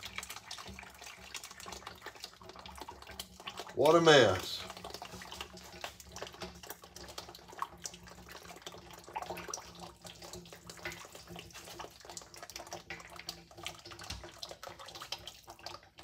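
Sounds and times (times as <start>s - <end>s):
oil splashing into a funnel: 0.0s - 16.0s.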